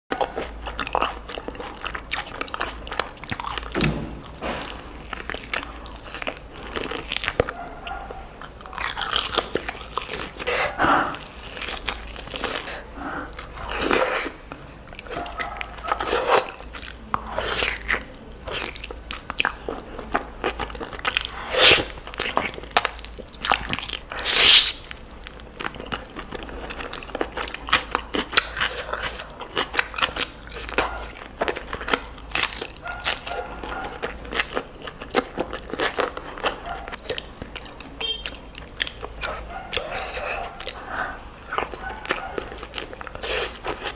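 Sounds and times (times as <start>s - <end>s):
person chewing and biting: 0.1s - 43.9s.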